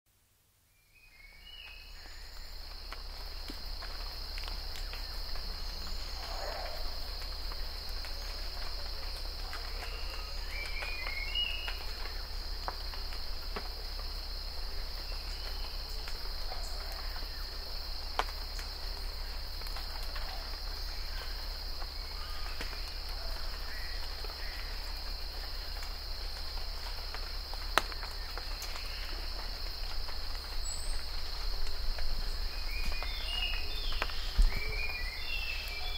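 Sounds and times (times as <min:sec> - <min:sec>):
rain drops ticking on foliage: 0:00.1 - 0:35.9.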